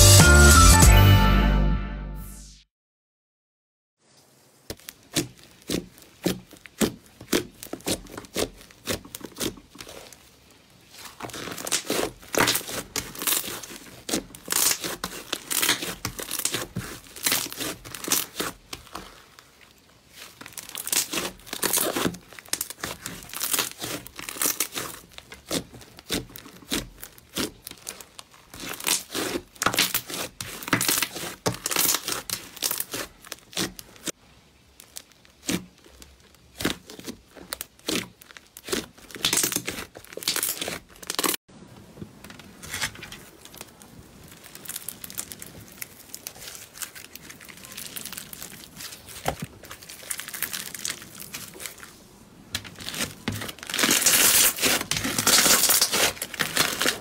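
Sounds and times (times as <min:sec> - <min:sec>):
slime squeezed crackling: 0:04.6 - 0:41.4, 0:42.5 - 0:57.0.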